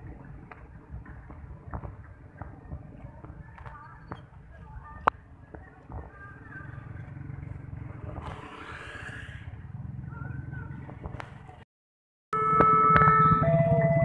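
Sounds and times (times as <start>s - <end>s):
motorcycle and car engines running: 0.0s - 11.6s.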